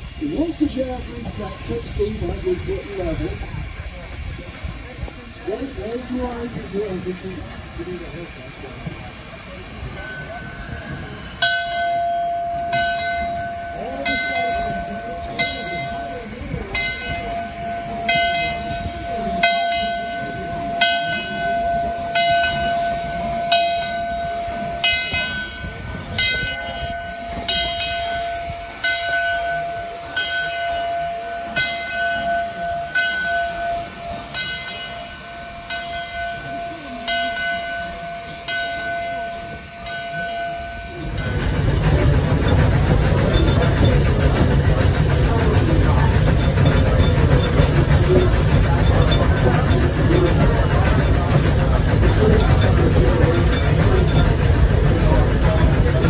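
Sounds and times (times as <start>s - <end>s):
low rumble of locomotive moving: 0.0s - 56.0s
locomotive bell ringing: 8.3s - 56.0s.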